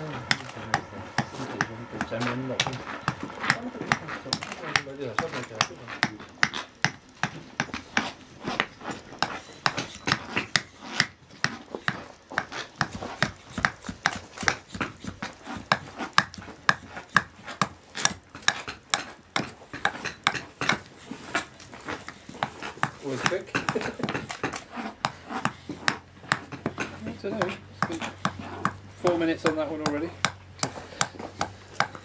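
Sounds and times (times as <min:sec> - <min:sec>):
hand axe chopping wood: 0:00.0 - 0:32.0.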